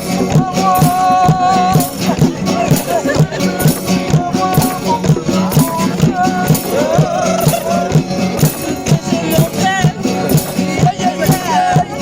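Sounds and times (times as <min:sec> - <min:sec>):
music with steady beat: 0:00.0 - 0:12.0
shaker percussion: 0:00.0 - 0:12.0.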